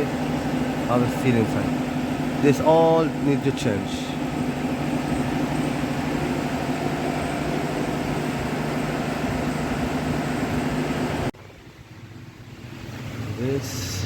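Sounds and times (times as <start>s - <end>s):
low hum of running machinery: 0.0s - 14.0s.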